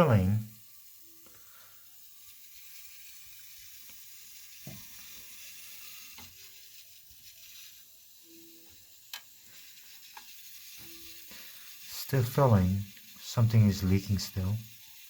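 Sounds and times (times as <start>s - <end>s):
toilet fill valve hissing: 0.0s - 15.0s.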